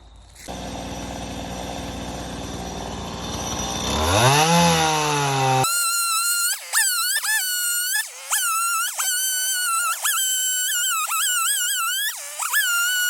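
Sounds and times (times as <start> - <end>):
chainsaw idling and revving: 0.2 - 13.0.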